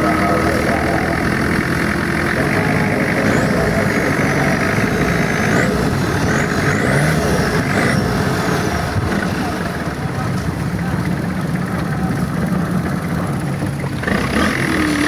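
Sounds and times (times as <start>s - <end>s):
boat engine running: 0.0s - 15.0s
water noise: 0.0s - 15.0s.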